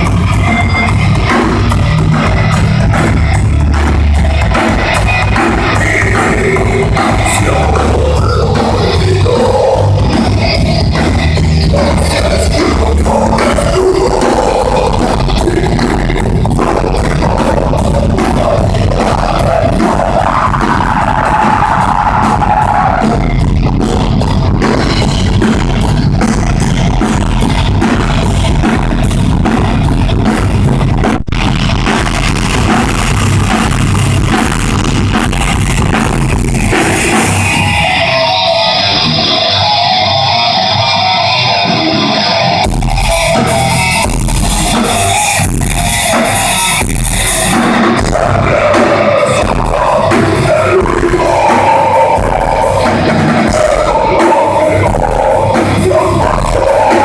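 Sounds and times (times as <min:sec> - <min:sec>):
drum kit rapid hits: 0:00.0 - 0:38.3, 0:42.6 - 0:57.0
distorted electric guitars: 0:00.0 - 0:57.0.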